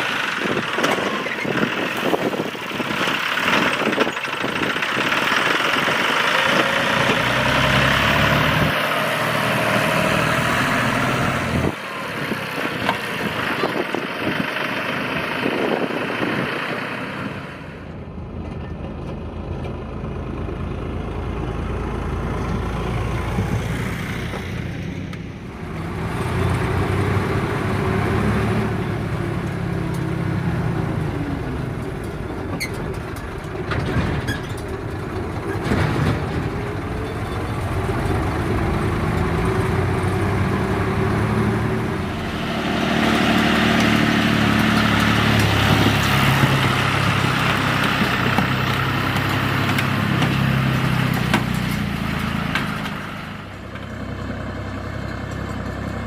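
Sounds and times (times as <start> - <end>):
heavy diesel engine: 0.0 - 56.0.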